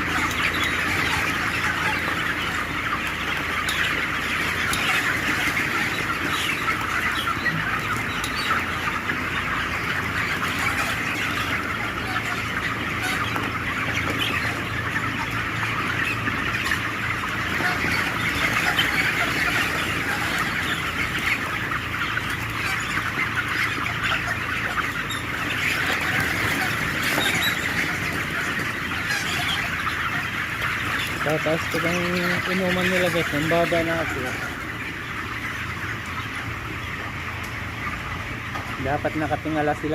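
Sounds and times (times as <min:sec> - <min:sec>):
flock of chickens clucking: 0:00.0 - 0:39.9.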